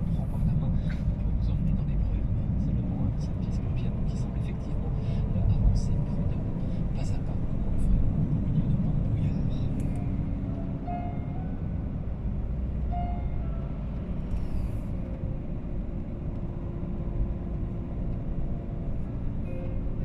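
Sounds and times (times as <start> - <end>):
car road rumble from cabin: 0.0 - 20.0.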